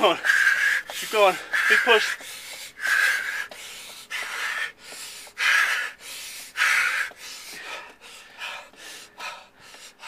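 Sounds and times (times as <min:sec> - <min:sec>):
man breathing hard: 0:00.0 - 0:10.0.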